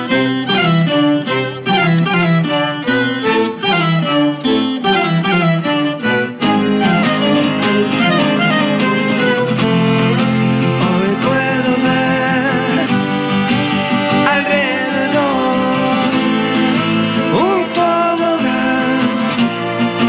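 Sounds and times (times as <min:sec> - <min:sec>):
acoustic guitar: 0:00.0 - 0:20.0
violins playing: 0:00.0 - 0:20.0.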